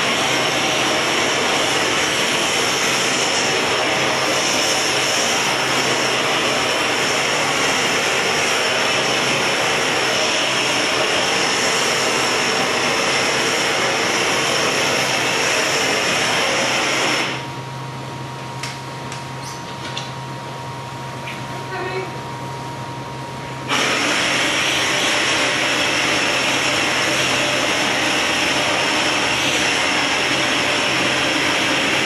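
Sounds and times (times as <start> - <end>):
gas torches roaring: 0.0 - 17.6, 23.4 - 32.0.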